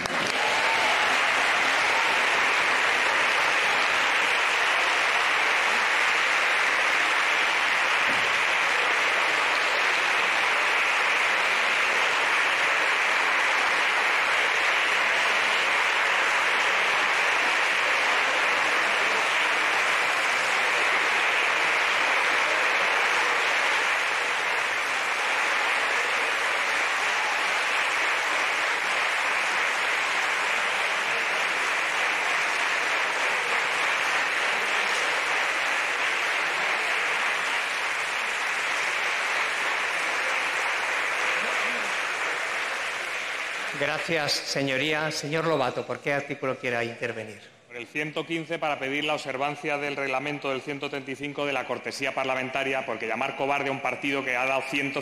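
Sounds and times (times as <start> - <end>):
people applauding: 0.0 - 46.9, 47.8 - 55.0.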